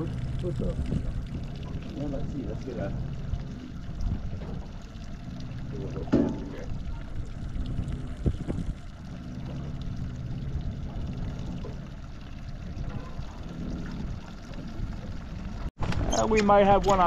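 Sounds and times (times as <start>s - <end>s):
outboard motor humming: 0.0s - 17.0s
water splashing and gurgling: 0.0s - 17.0s.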